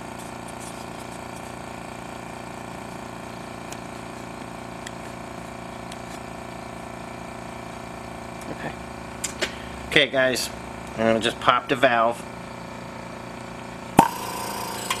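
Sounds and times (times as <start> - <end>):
pulsing mechanical hum: 0.0 - 15.0.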